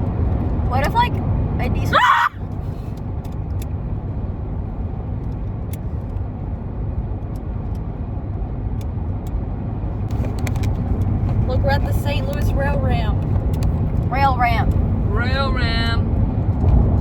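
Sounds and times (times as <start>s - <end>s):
road and engine rumble inside car: 0.0s - 17.0s.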